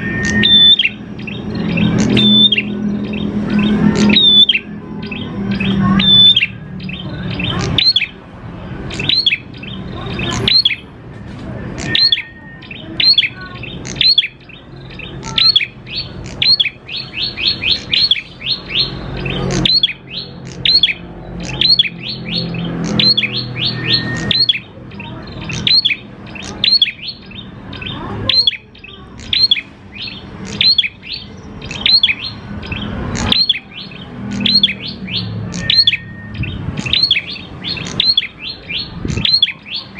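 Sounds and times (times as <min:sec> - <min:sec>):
bird singing sharp high chirps: 0:00.0 - 0:11.0, 0:11.6 - 0:39.9.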